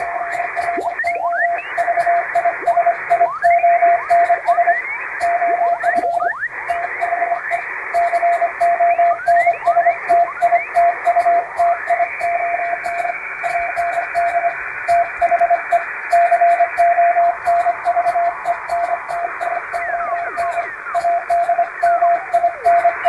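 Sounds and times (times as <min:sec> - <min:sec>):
morse code tone: 0:00.0 - 0:23.0
shortwave static with whistling: 0:00.0 - 0:23.0.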